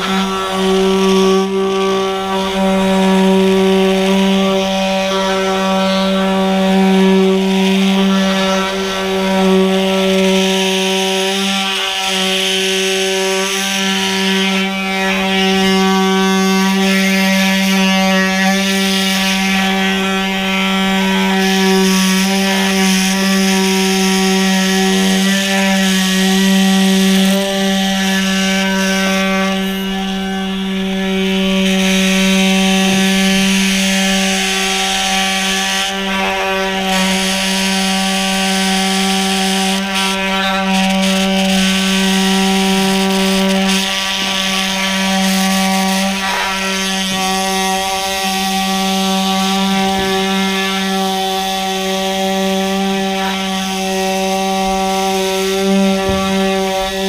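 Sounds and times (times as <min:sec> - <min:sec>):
power cold knife buzzing hum: 0:00.0 - 0:57.0.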